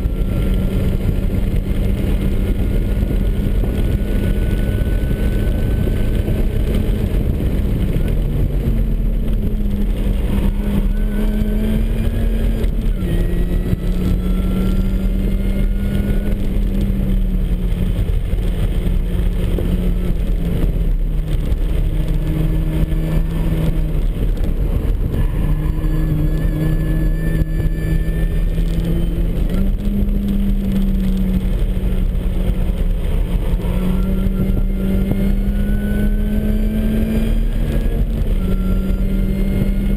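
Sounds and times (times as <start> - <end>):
car engine revving: 0.0 - 39.9
thin rising supercharger whine: 0.0 - 39.9.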